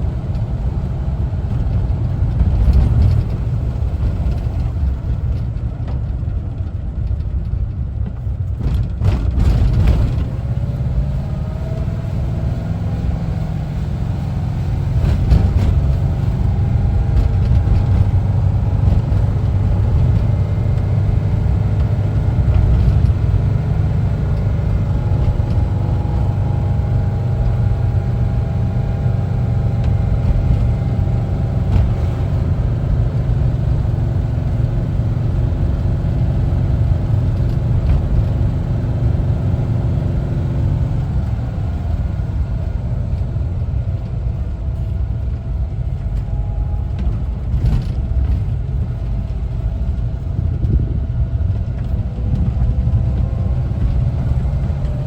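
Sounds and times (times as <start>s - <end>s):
van engine rumbling: 0.0s - 55.0s.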